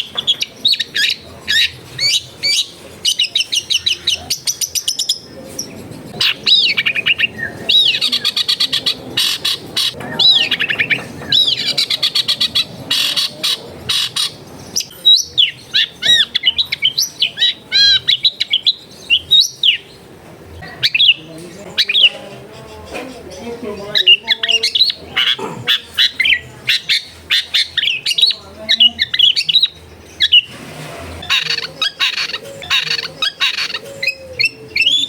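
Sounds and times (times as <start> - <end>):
shrike singing: 0.0 - 30.6, 31.2 - 35.0.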